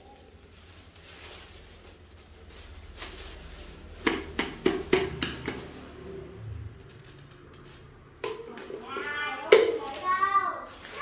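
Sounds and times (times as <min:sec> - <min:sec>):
plastic bags rustling: 0:00.0 - 0:07.7, 0:08.8 - 0:11.0.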